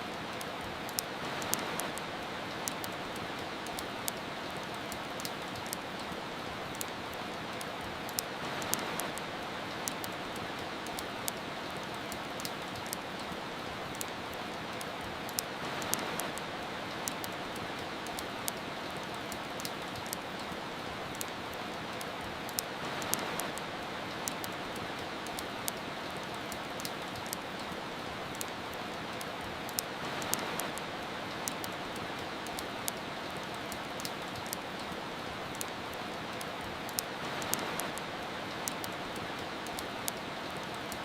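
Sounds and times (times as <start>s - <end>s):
rain hiss: 0.0s - 41.0s
wood fire crackling: 0.0s - 41.0s.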